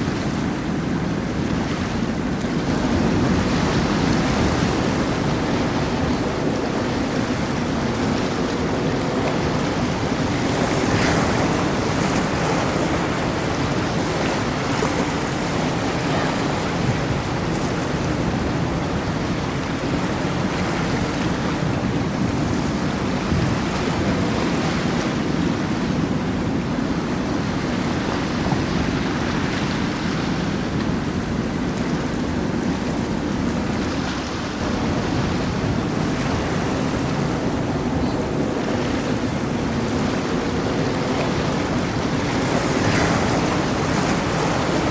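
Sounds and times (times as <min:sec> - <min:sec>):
boat engines rumbling: 0:00.0 - 0:44.9
waves rushing: 0:00.0 - 0:44.9
wind buffeting microphone: 0:00.0 - 0:44.9.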